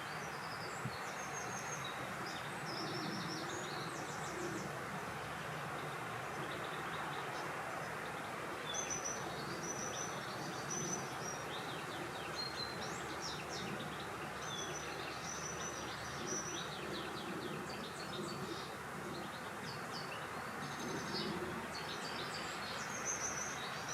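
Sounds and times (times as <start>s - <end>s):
songbirds singing: 0.0s - 23.9s.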